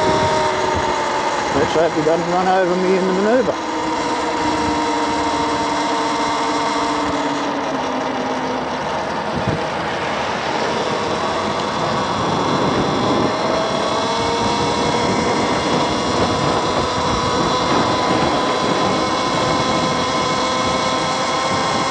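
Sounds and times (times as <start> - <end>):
wind rushing over microphone: 0.0 - 7.9, 8.8 - 21.9
electric motor whine: 0.0 - 21.9.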